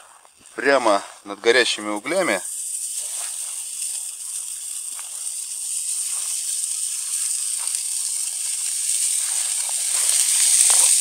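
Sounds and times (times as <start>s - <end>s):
burger patties sizzling on grill: 0.0s - 11.0s.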